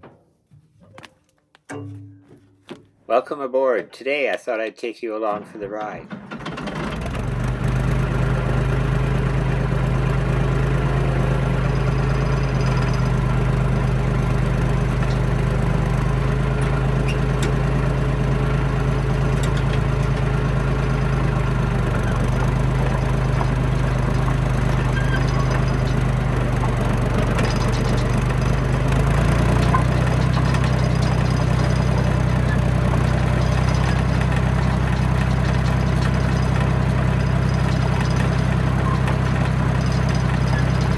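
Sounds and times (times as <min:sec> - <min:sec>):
bulldozer diesel engine running: 0:05.2 - 0:40.9.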